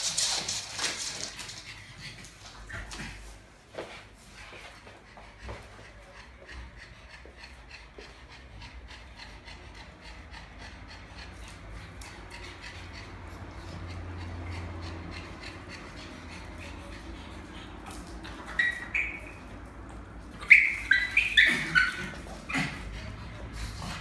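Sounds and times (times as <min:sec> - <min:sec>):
pugs panting: 0:00.0 - 0:24.0.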